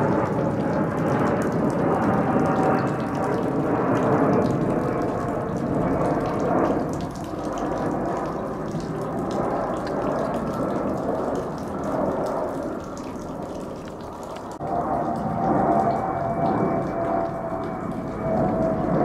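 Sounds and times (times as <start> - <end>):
jet engines roaring overhead: 0.0 - 19.0.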